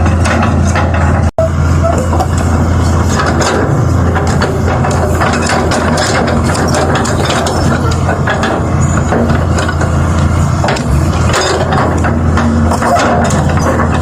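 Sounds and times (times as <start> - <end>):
heavy engine humming: 0.0 - 14.0
metal knocks and clanks: 0.0 - 14.0.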